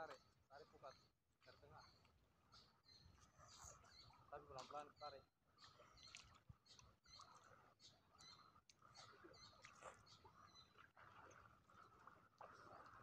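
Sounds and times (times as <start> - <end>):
faint high chirps and ticks: 0.0 - 10.9.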